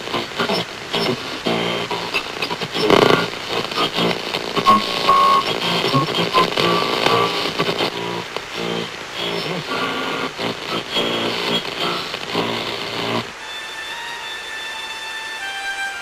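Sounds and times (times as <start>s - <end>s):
crackling static noise: 0.0s - 16.0s.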